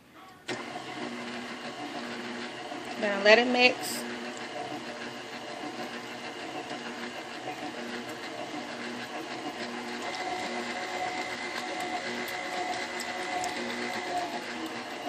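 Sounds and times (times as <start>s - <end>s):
electric stand mixer running: 0.5s - 15.0s.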